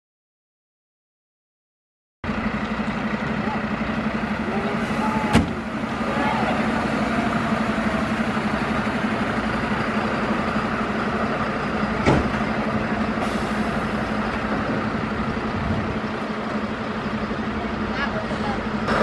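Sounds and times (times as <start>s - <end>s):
fire engine diesel running: 2.2s - 19.0s.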